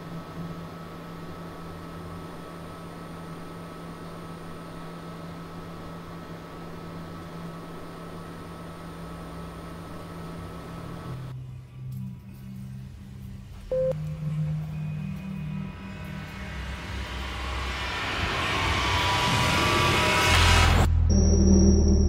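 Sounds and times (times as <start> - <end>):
low electronic hum: 0.0 - 22.0.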